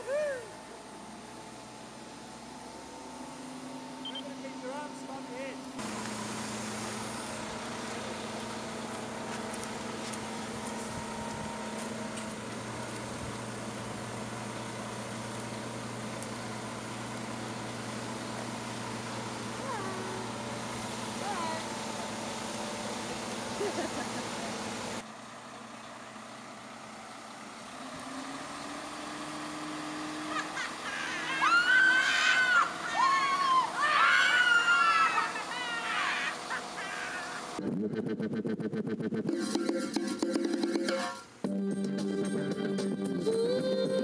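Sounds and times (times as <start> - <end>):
crane engine running: 0.0 - 44.0.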